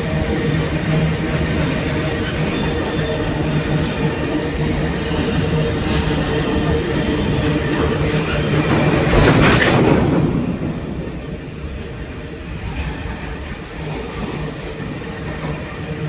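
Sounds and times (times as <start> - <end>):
low locomotive engine hum: 0.0 - 16.0
train rumbling past: 0.0 - 16.0.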